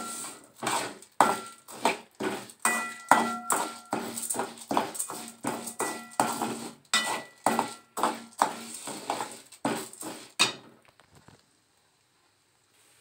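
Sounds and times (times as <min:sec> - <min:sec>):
grains rattling in a pan: 0:00.0 - 0:10.6
spatula scraping a metal pan: 0:00.0 - 0:10.7.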